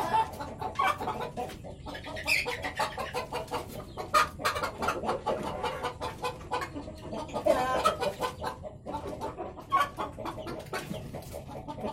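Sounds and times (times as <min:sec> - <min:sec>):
chicken drawn-out call: 0:00.0 - 0:10.8
chickens clucking: 0:00.0 - 0:11.9.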